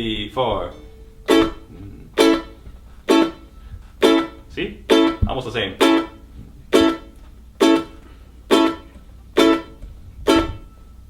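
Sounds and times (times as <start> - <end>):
ukulele chord strums: 0.0 - 11.0.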